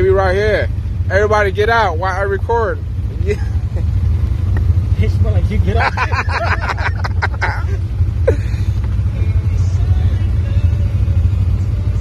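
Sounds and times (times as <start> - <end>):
voices talking: 0.0 - 11.0
utility vehicle engine idling: 0.0 - 12.0.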